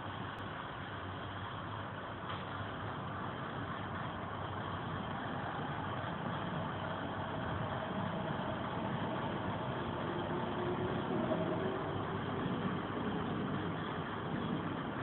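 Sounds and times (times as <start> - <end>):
railcar engine droning: 0.0 - 15.0.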